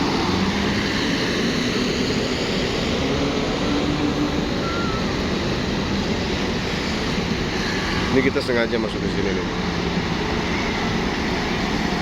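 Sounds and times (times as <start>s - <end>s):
traffic jam engine noise: 0.0s - 12.0s.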